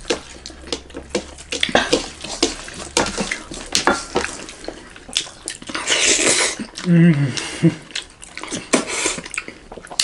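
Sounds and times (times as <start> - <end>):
fingers squishing moist food: 0.0 - 10.0
wet chewing and lip smacks: 0.0 - 10.0.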